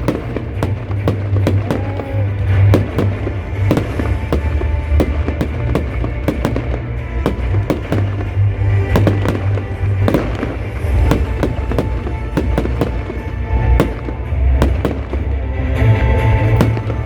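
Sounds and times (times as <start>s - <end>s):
distant explosions rumbling: 0.0s - 17.0s
firework bangs: 0.0s - 17.0s
music playing: 0.0s - 17.0s.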